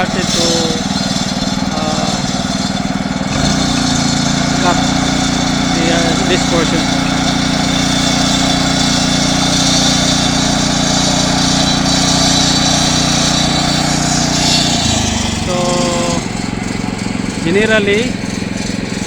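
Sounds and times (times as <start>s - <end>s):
concrete saw cutting concrete: 0.0s - 19.0s.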